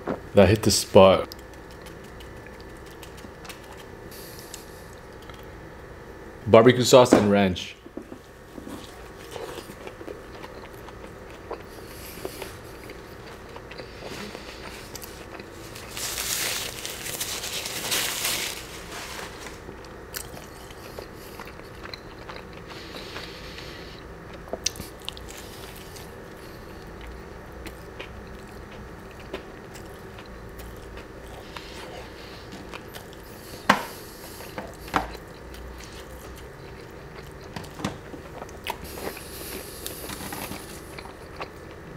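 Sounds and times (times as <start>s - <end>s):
crunchy chewing of fried chicken: 1.3s - 5.6s, 8.2s - 41.9s.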